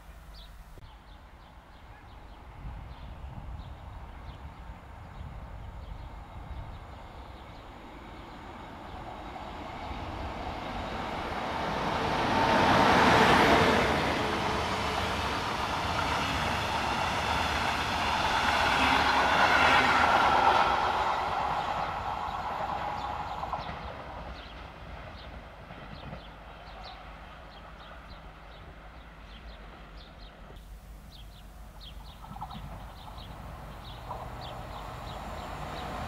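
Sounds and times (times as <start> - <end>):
train passing: 1.5 - 36.0.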